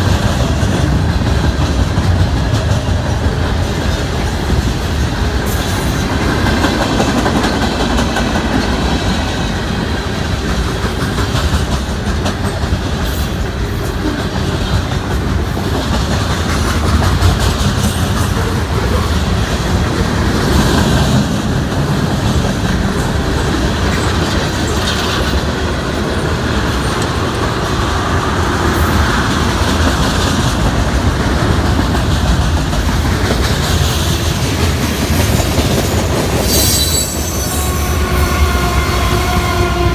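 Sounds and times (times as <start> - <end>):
train wheels rumbling on rail: 0.0 - 39.9
wheels clacking over rail joints: 0.0 - 39.9.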